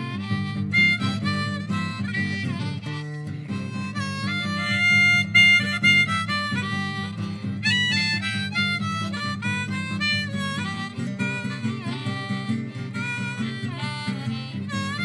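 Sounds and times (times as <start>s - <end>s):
blues harmonica solo: 0.0s - 15.0s
guitar accompaniment: 0.0s - 15.0s.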